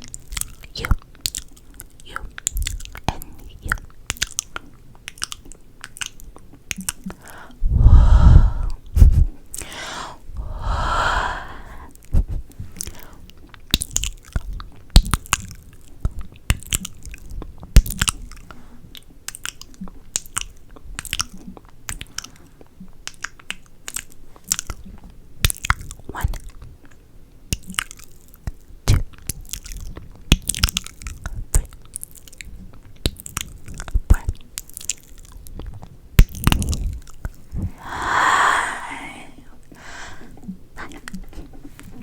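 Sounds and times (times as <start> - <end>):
wet mouth clicks and kisses: 0.0 - 18.6, 19.2 - 22.4, 23.0 - 26.6, 27.5 - 41.5.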